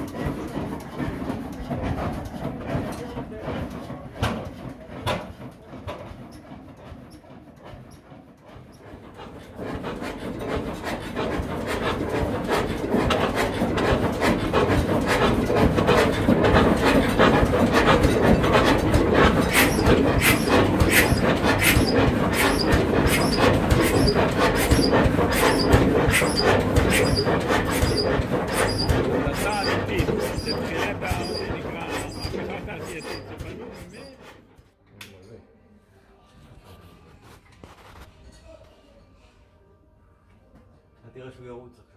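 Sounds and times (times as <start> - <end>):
stationary engine exhaust beat: 0.0 - 34.4.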